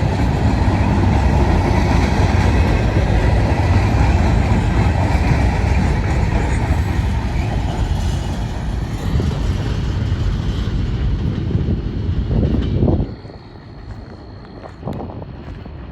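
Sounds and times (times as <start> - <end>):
freight train cars rolling: 0.0 - 15.9.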